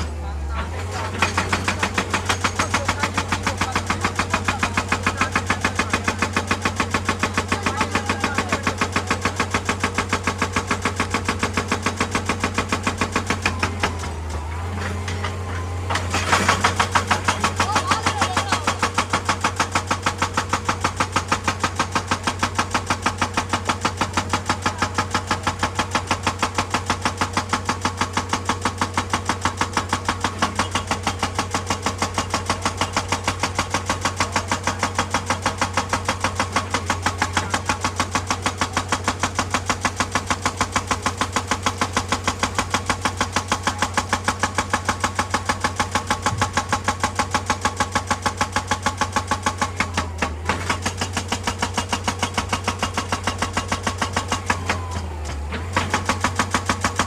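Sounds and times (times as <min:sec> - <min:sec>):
excavator engine hum: 0:00.0 - 0:57.0
hydraulic breaker hammering rock: 0:00.0 - 0:57.0.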